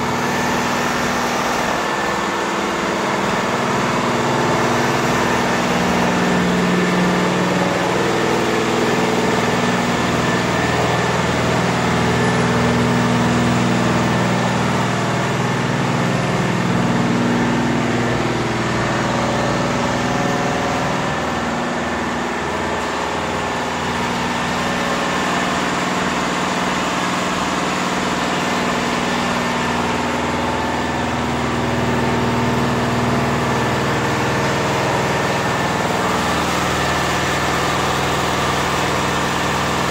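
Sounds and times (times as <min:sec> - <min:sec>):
embroidery machine running: 0:00.0 - 0:39.9.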